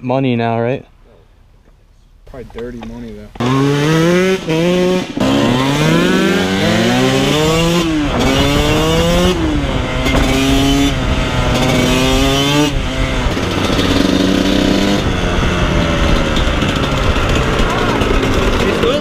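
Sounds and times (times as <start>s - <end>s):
dirt bike engine shifting gears: 2.3s - 19.0s.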